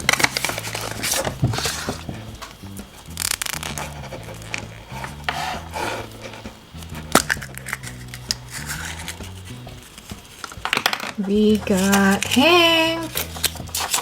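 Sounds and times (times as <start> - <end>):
wrapper crinkling: 0.0 - 5.3, 7.2 - 14.0
quiet background music: 0.0 - 14.0.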